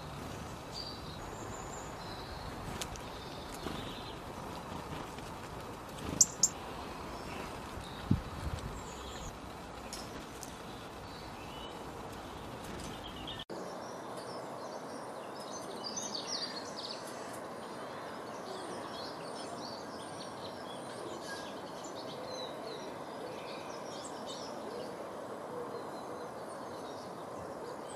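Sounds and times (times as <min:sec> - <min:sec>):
outdoor background hiss: 0:00.0 - 0:27.9
small birds chirping: 0:00.0 - 0:27.9.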